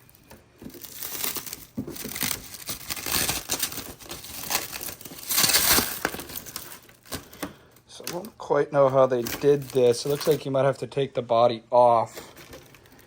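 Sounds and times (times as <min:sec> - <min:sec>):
plastic packaging crinkling and tearing: 0:00.0 - 0:10.6, 0:12.1 - 0:13.0.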